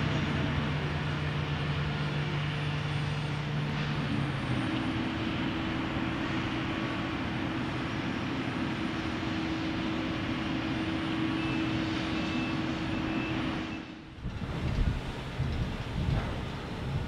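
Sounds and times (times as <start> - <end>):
heavy machinery engine rumbling: 0.0 - 17.0.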